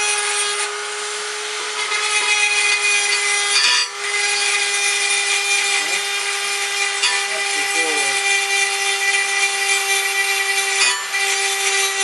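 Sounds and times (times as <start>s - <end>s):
router motor whining and grinding: 0.0s - 12.0s.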